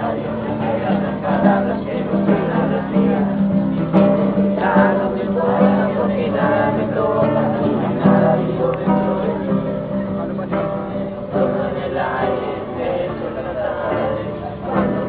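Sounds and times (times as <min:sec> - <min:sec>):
strummed acoustic guitar: 0:00.0 - 0:15.0
voices singing together: 0:00.0 - 0:15.0.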